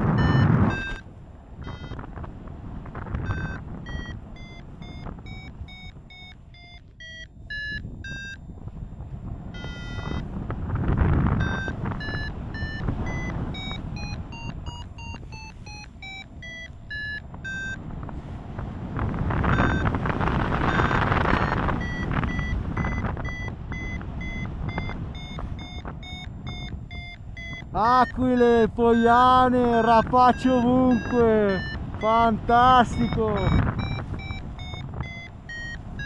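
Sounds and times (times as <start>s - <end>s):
variometer beeps: 0.0s - 2.2s, 3.0s - 18.1s, 19.3s - 36.0s
wind rushing over microphone: 0.0s - 6.6s, 7.4s - 36.0s.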